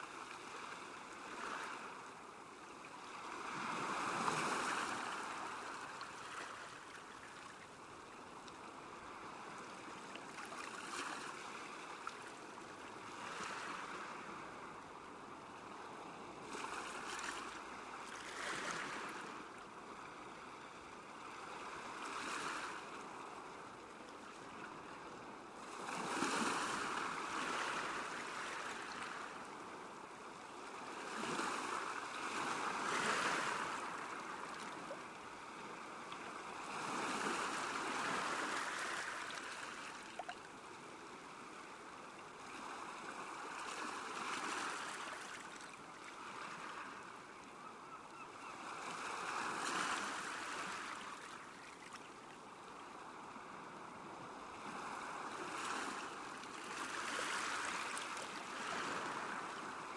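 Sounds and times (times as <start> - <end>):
small waves washing onto shore: 0.0 - 15.1, 21.3 - 47.5, 48.4 - 59.9.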